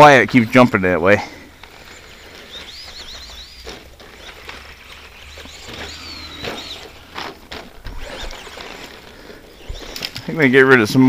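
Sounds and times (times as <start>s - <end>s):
electric motor whining: 1.5s - 10.5s.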